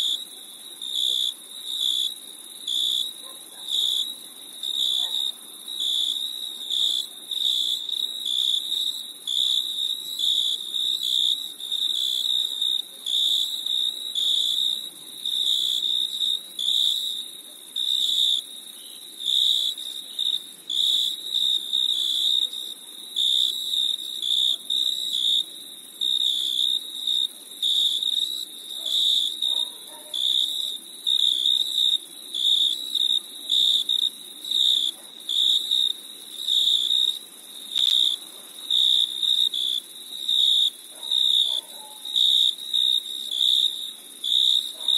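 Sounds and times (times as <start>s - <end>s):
cricket chirping: 0.0s - 44.9s.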